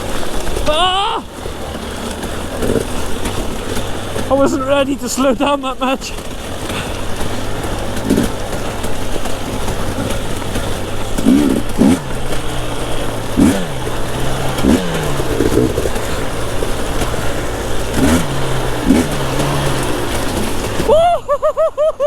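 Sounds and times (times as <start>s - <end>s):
steady rushing noise: 0.0s - 20.9s
dirt bike engine revving: 0.0s - 22.0s.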